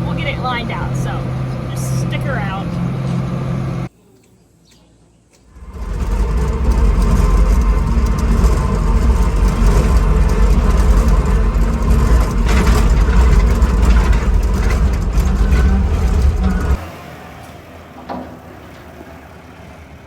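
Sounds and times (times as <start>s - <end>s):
heavy engine rumbling: 0.0s - 3.9s, 5.5s - 20.0s.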